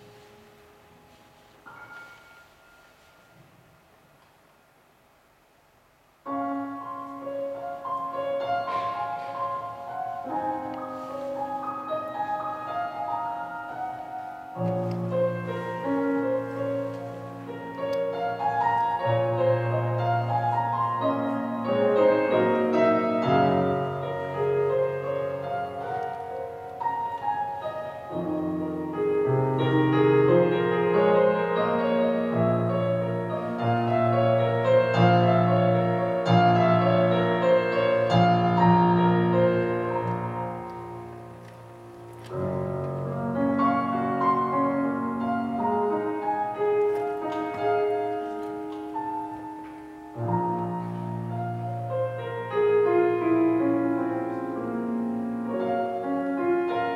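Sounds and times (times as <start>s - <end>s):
solo grand piano: 0.0s - 56.9s.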